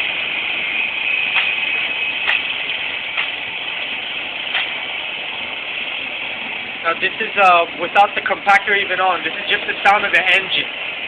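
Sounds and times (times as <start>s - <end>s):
compactor engine running: 0.0s - 11.0s.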